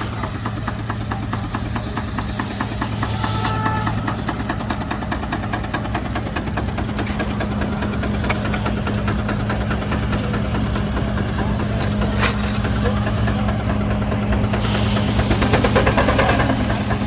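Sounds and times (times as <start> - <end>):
engine running with knocking: 0.0 - 17.0.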